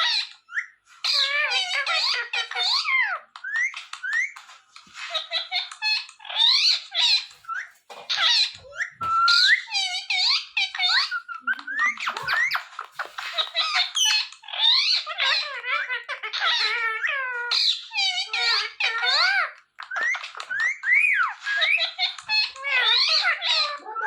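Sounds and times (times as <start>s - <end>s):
parrot chattering and squeaking: 0.0s - 24.0s.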